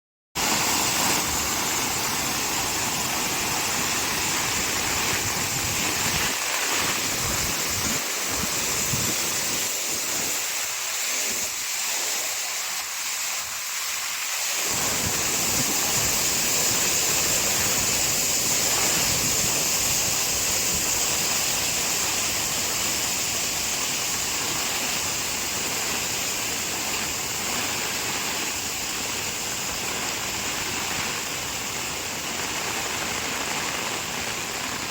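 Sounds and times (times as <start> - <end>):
heavy rain pouring: 0.4 - 34.9.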